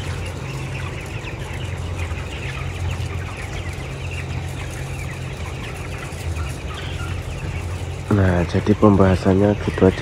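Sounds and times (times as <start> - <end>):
chickens clucking and cheeping: 0.0 - 10.0.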